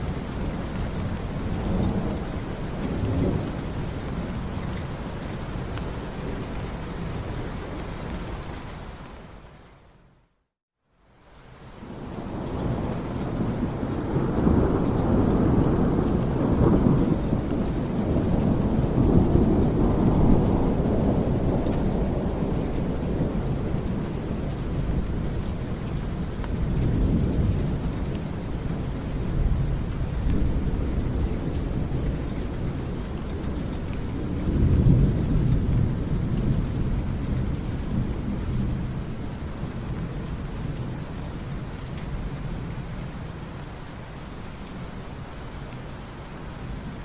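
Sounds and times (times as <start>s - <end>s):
low rolling thunder: 0.0s - 7.6s, 11.8s - 43.2s
heavy rain: 0.0s - 47.0s.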